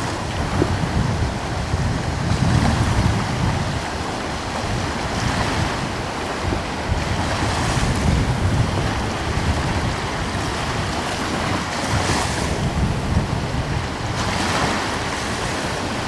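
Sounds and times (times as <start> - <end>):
ocean waves washing ashore: 0.0 - 16.0
wind buffeting microphone: 0.0 - 16.0.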